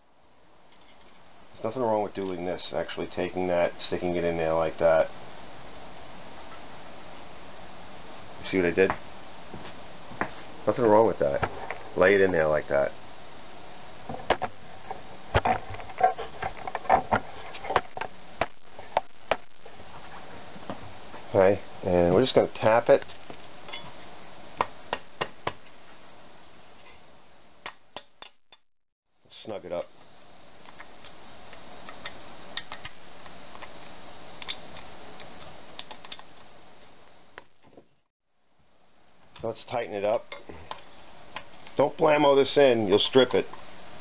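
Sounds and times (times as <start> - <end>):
steady background hiss: 0.0 - 28.2, 29.2 - 44.0.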